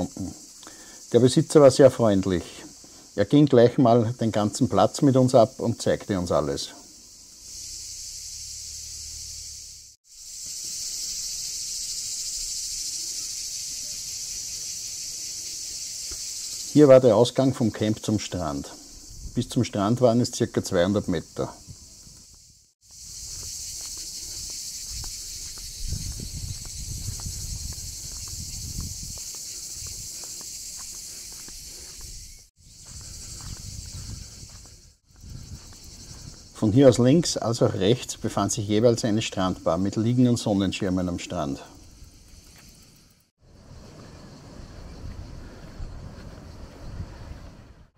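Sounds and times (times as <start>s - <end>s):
insects shrilling: 0.0s - 45.0s
cicadas chorus: 0.0s - 47.9s.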